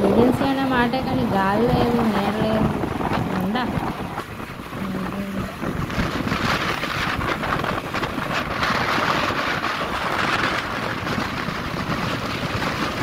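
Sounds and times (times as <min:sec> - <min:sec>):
vehicle engine and road noise: 0:00.0 - 0:13.0
wind buffeting microphone: 0:00.0 - 0:13.0.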